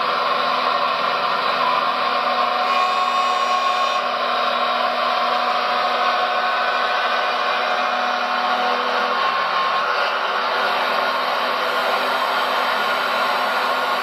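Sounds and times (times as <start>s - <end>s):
electric pump whining: 0.0s - 14.0s.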